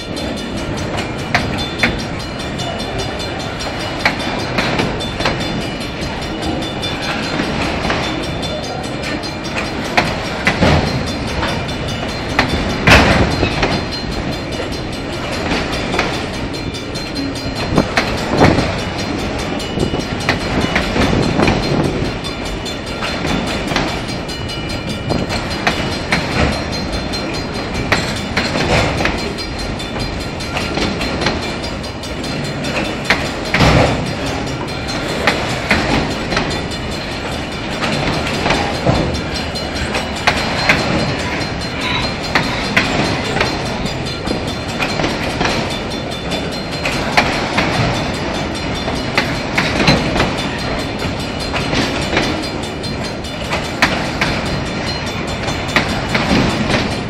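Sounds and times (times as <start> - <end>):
freight train rumbling and rattling: 0.0 - 57.0
wheels clanking over rail joints: 0.0 - 57.0.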